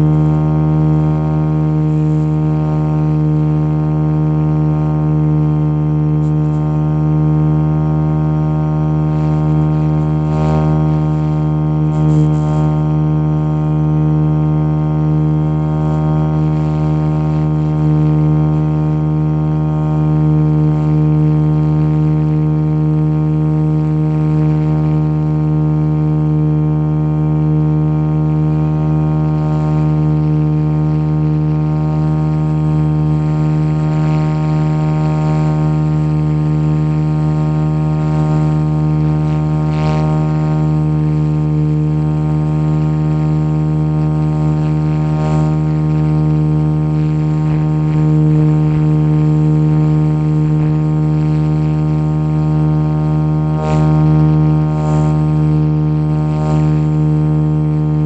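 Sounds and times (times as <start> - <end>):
model helicopter drone: 0.0 - 58.0.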